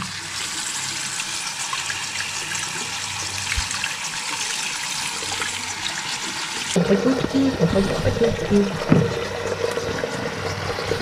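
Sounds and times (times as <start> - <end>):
tap water running into a sink: 0.0 - 11.0.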